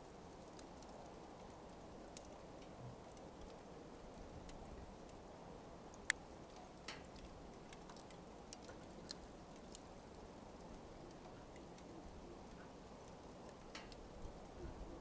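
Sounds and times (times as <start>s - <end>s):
burning coals crackling: 0.0s - 15.0s.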